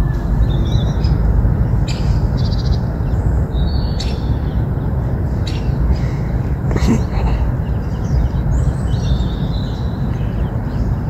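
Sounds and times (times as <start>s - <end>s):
bird chirps and trill: 0.0s - 6.2s, 7.1s - 11.0s
steady low rumble: 0.0s - 11.0s.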